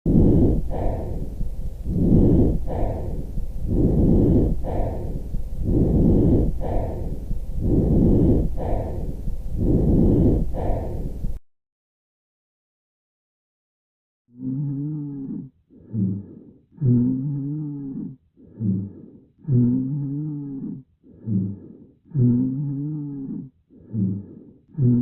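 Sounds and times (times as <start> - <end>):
breathing lung sounds: 0.1 - 11.4, 14.4 - 25.0.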